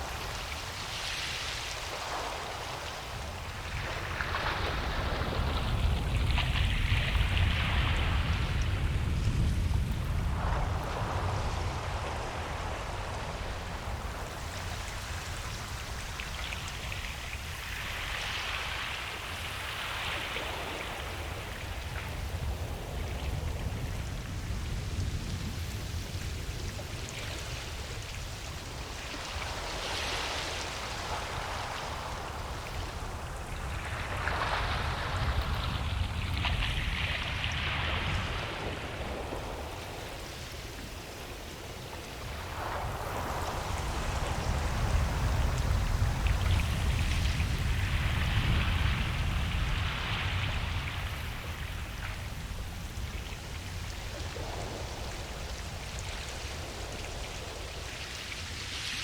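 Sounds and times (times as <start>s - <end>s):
waves washing on a beach: 0.0s - 59.0s.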